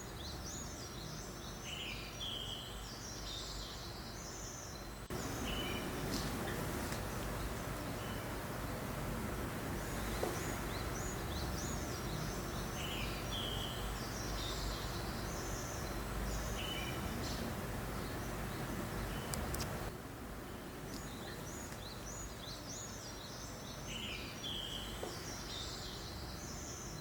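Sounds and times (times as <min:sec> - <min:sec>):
birds chirping: 0:00.0 - 0:27.0
steady breeze: 0:00.0 - 0:27.0.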